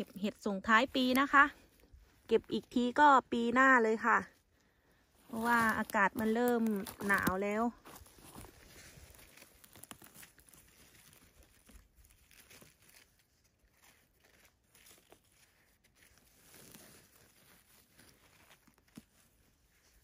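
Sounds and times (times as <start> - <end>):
rustling of moss and pine needles: 0.0 - 20.0.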